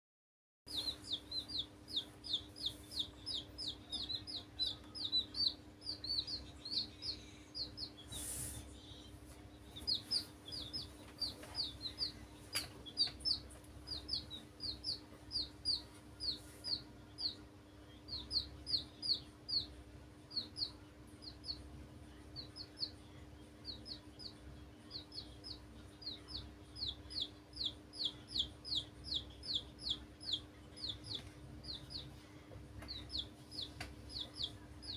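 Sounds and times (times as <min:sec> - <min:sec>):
chicks peeping: 0:00.7 - 0:34.9.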